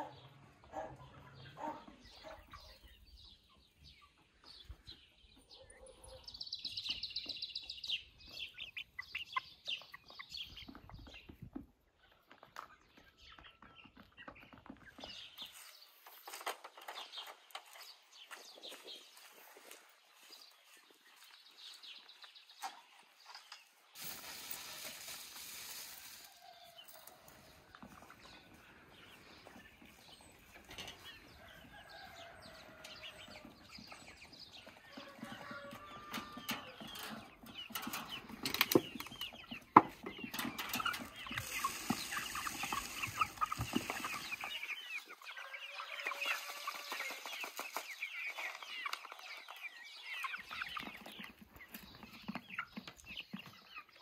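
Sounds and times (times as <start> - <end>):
hens clucking: 0.0 - 21.4, 22.1 - 54.0.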